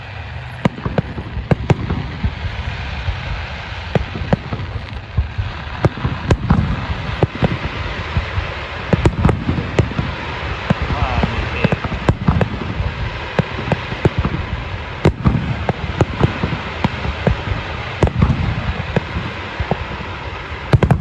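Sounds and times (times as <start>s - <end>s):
fireworks bangs: 0.0s - 21.0s
steady background rush: 0.0s - 21.0s.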